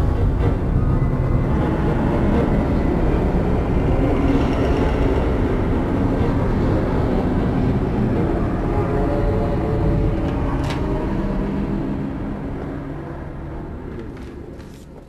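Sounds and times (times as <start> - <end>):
low rumbling drone: 0.0 - 14.5.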